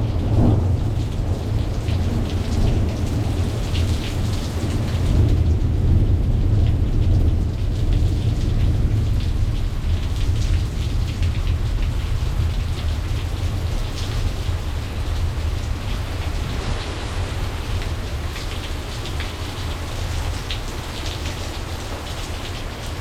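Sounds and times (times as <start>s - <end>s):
rolling thunder: 0.0s - 20.5s
close raindrops: 0.0s - 23.0s
rain pattering: 0.0s - 23.0s.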